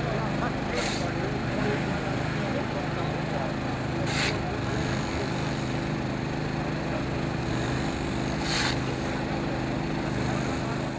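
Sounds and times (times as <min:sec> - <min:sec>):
small engine running: 0:00.0 - 0:10.9.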